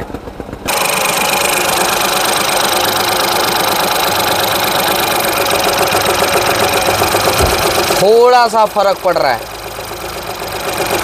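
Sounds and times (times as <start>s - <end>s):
car engine idling rough and misfiring: 0.0s - 11.0s.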